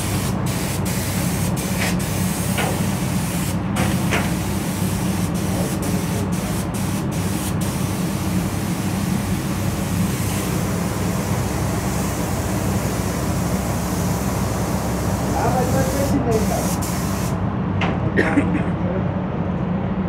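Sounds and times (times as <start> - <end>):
paint spray gun hissing: 0.0 - 17.4
steady low hum: 0.0 - 20.0.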